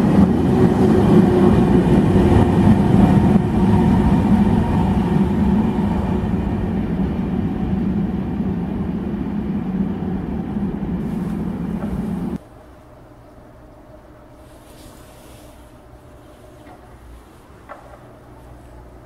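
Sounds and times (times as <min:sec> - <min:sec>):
train running noise and hum: 0:00.0 - 0:19.0.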